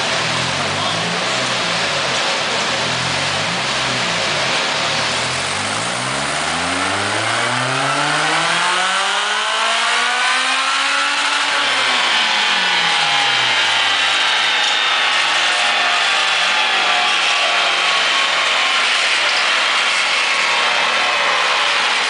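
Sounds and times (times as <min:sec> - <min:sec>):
car engine revving under load: 0:00.0 - 0:22.0.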